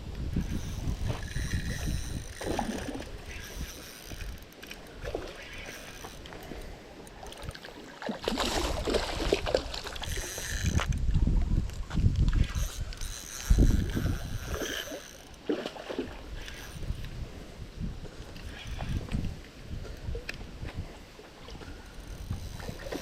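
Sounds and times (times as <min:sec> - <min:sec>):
wind rumbling on microphone: 0:00.0 - 0:15.0, 0:15.7 - 0:23.0
water splashing and sloshing: 0:00.0 - 0:23.0.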